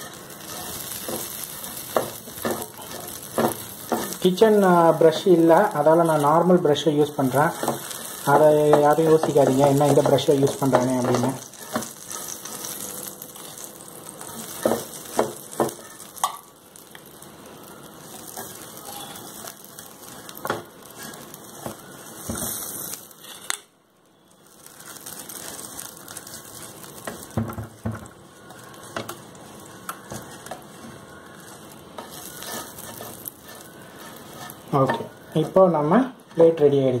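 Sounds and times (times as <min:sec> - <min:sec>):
butter sizzling: 0:00.0 - 0:37.0.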